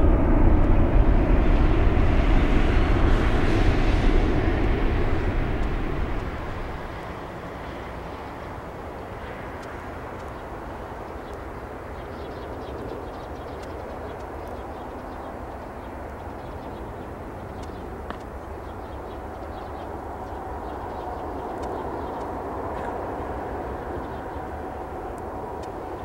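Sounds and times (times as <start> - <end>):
jet engine rumble: 0.0 - 26.0
jet engine whine: 0.0 - 26.0.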